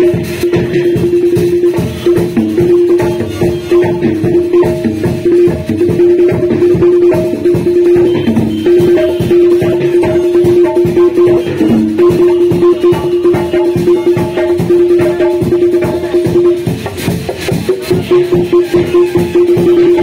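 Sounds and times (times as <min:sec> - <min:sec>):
music with fast percussion beat: 0:00.0 - 0:20.0.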